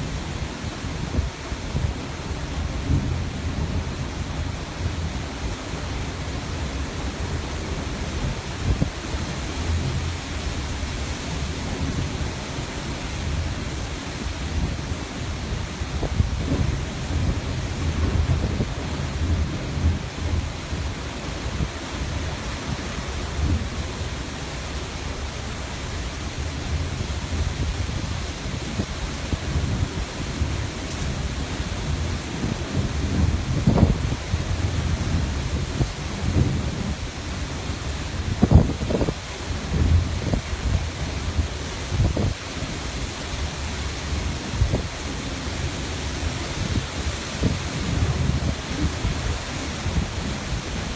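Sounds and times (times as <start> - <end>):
waves breaking: 0.0 - 50.9
wind buffeting microphone: 0.0 - 50.9.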